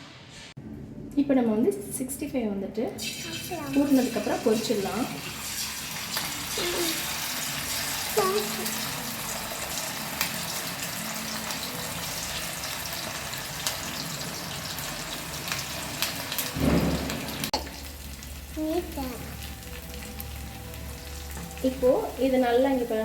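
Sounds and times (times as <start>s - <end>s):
chicken deep-frying in oil: 3.0s - 23.0s.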